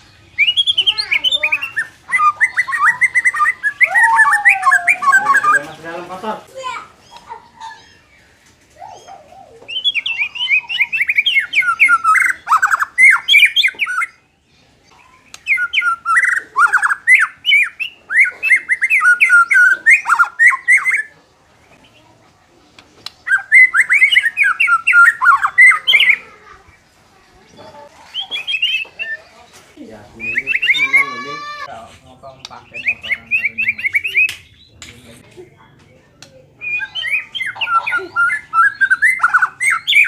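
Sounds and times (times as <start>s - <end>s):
bird singing varied phrases: 0.0s - 40.0s.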